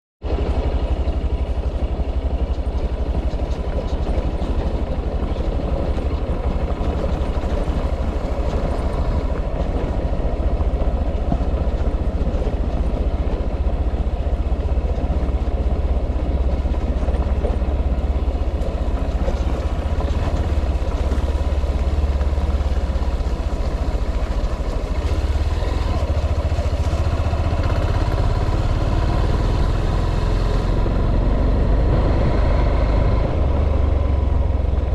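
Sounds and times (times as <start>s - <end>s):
vehicle engine and road rumble: 0.2s - 34.9s.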